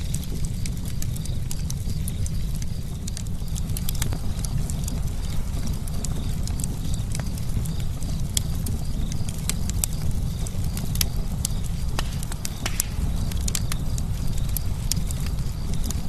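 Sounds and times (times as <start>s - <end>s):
campfire crackling: 0.0s - 16.0s
low rush of burning: 0.0s - 16.0s.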